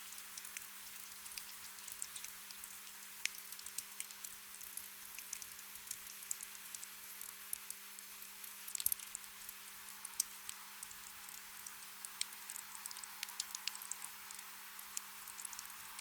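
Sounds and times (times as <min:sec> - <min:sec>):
gentle rain: 0:00.0 - 0:16.0
raindrops ticking: 0:00.1 - 0:07.8, 0:08.4 - 0:09.3, 0:09.9 - 0:16.0.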